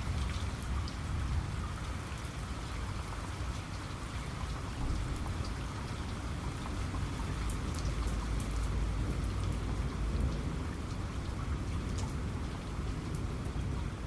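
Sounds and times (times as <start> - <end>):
heavy rain falling: 0.0 - 14.0
raindrops ticking close by: 0.0 - 14.0.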